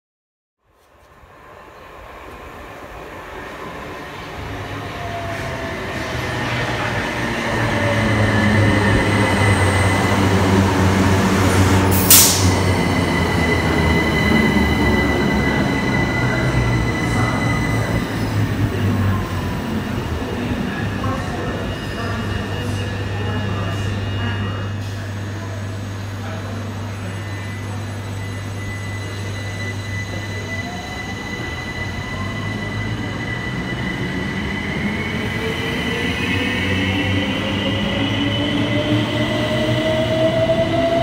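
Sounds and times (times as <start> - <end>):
electric train running past: 0.9 - 41.0.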